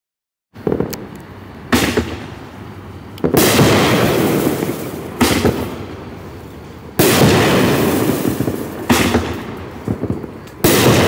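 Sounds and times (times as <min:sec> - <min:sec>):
firework bangs with crackling: 0:00.6 - 0:11.0.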